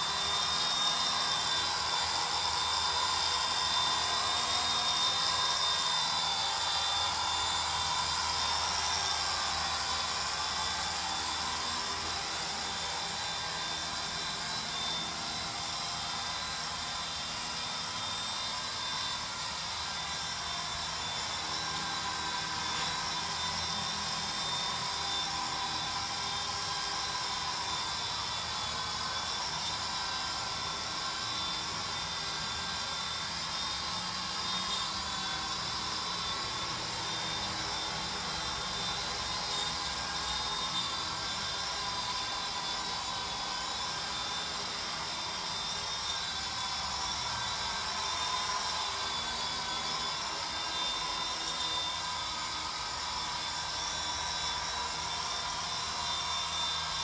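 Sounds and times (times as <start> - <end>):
helicopter rotor whine: 0.0 - 57.0.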